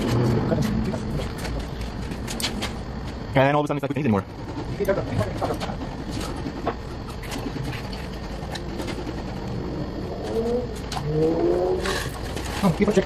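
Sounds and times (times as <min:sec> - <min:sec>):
low hum: 0:00.0 - 0:12.6.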